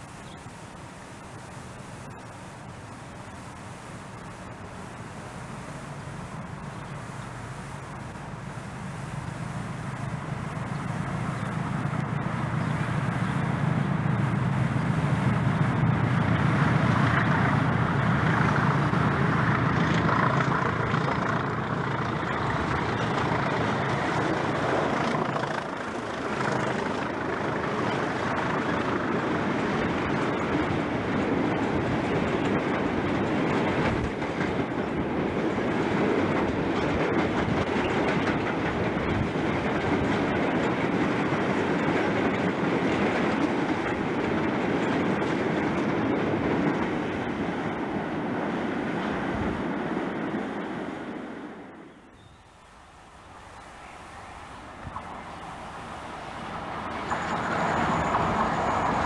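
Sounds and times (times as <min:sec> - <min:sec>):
diesel locomotive engine: 0:00.0 - 0:59.0
wagons rumbling on rails: 0:00.0 - 0:59.0.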